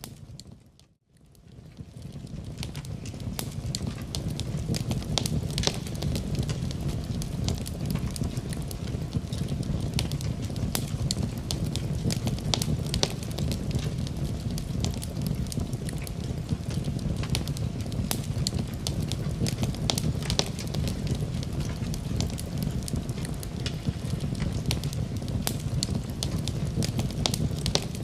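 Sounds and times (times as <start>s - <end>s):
low rumble of flame: 0.0s - 28.0s
logs popping and snapping: 2.5s - 28.0s.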